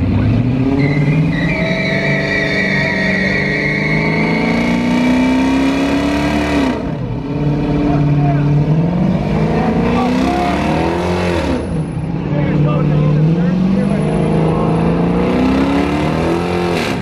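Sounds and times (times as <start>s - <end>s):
vehicle engine revving high: 0.0s - 17.0s.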